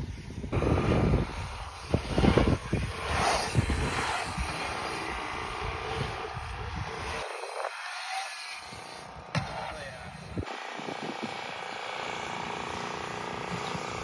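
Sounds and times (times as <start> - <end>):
bike tyres rumbling on asphalt: 0.0 - 14.0.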